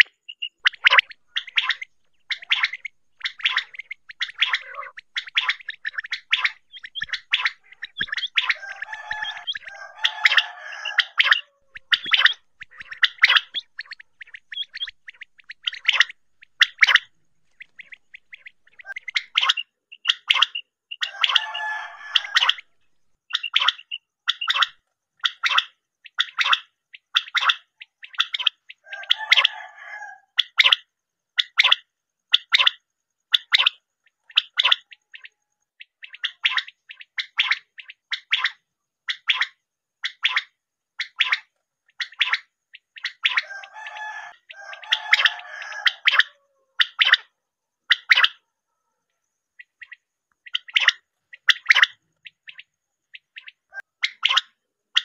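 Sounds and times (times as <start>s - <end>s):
quail calling: 0.0s - 55.0s.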